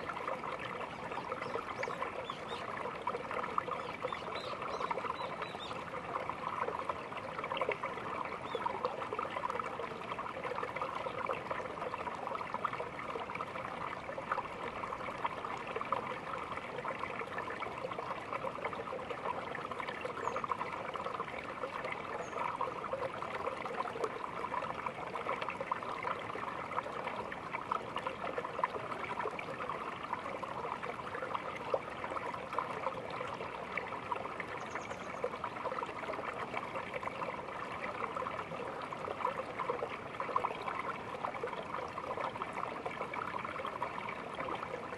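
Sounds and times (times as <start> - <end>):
stream trickling over stones: 0.0 - 44.9.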